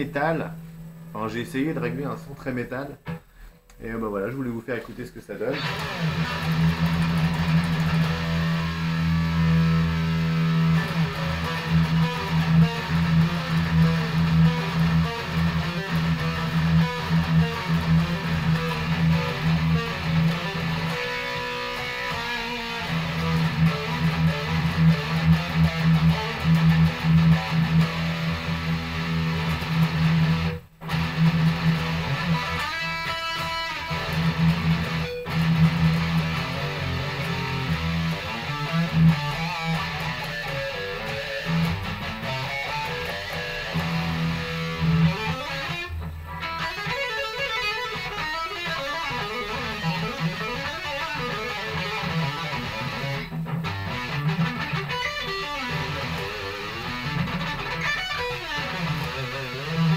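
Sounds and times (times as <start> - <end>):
distorted electric guitar riffs: 0.0 - 3.6, 5.4 - 59.9.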